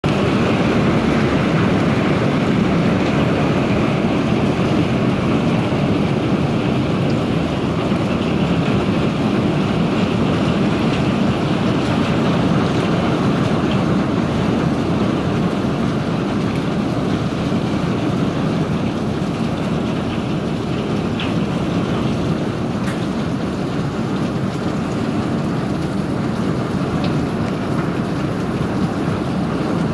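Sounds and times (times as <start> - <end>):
hail and rain falling: 0.0 - 29.9.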